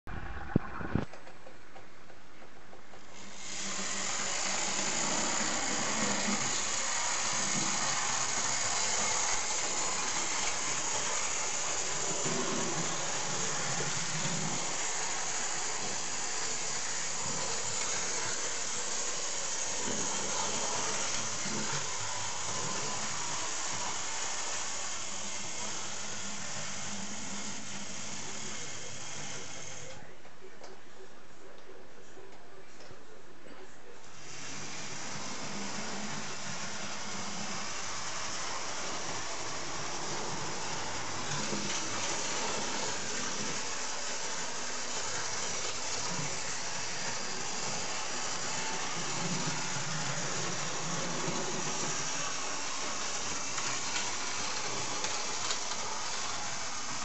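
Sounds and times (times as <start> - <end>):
model train whirring on rails: 2.9 - 30.1, 34.0 - 57.0.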